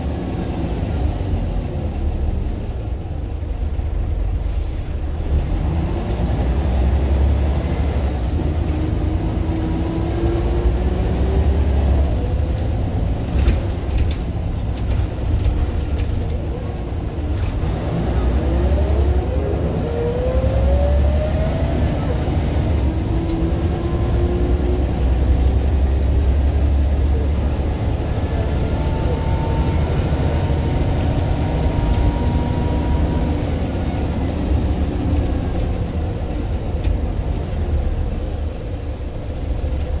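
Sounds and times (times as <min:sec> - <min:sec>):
bus engine drone: 0:00.0 - 0:40.0.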